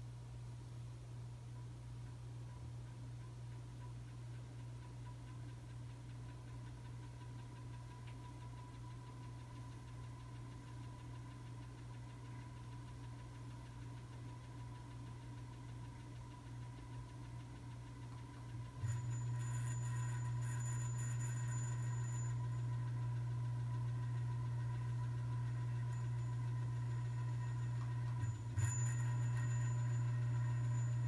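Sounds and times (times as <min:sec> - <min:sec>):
ceiling fan motor humming: 0:00.0 - 0:31.0.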